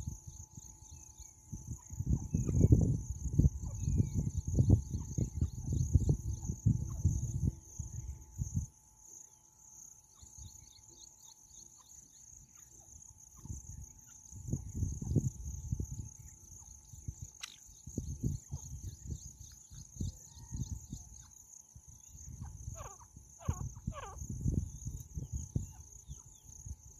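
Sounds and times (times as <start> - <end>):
chorus of crickets: 0.0 - 26.9.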